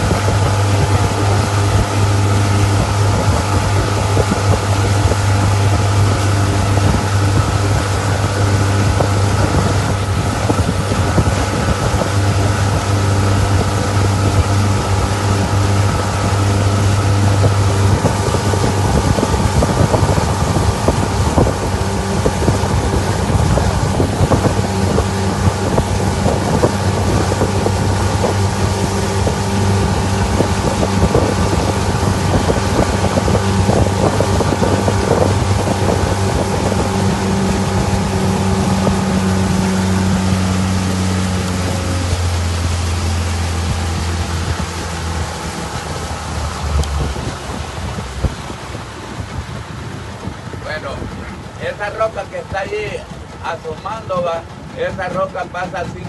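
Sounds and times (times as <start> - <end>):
outboard motor running: 0.0 - 56.0
water rushing past hull: 0.0 - 56.0
wind buffeting microphone: 0.0 - 56.0.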